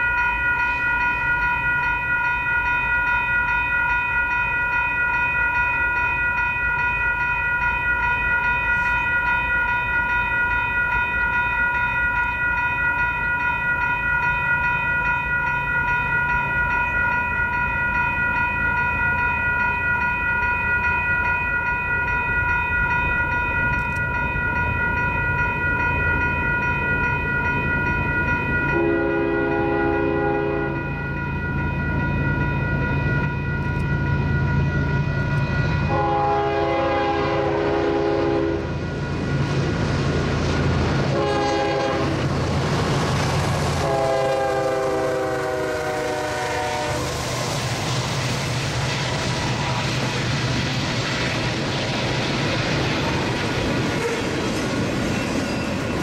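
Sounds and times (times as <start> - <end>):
distant train locomotive rumble: 0.6 - 56.0.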